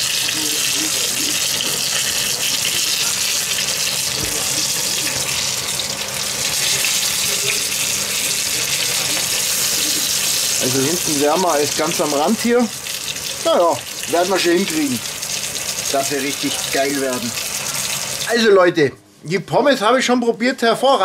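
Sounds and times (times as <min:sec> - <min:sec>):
meat sizzling in a pan: 0:00.0 - 0:18.6.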